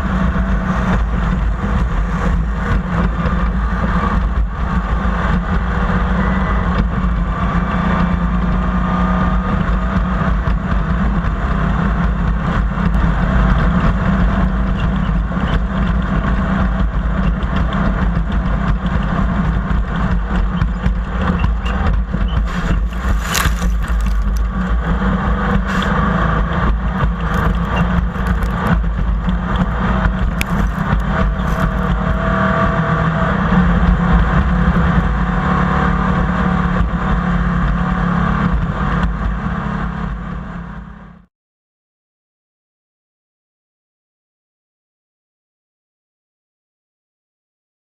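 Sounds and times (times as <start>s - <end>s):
engine running steadily: 0.0s - 41.3s.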